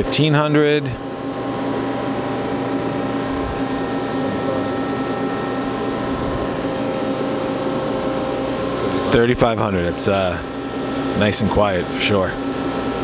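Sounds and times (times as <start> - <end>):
lathe spindle whine: 0.0 - 13.0.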